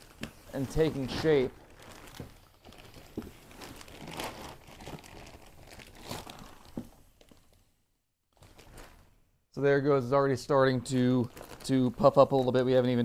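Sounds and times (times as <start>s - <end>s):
plastic wrapping crinkling: 0.0s - 7.7s, 8.3s - 9.2s, 10.6s - 13.0s.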